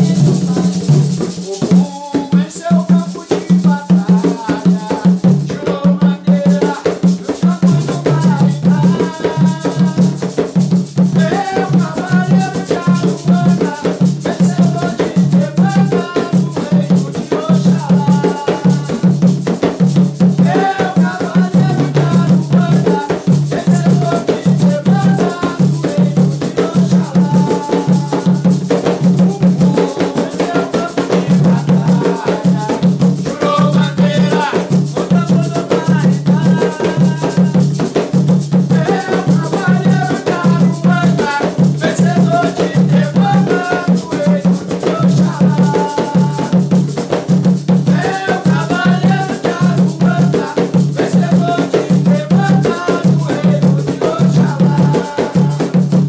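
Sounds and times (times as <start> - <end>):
hand drums beating: 0.0 - 56.0
men singing: 0.0 - 56.0.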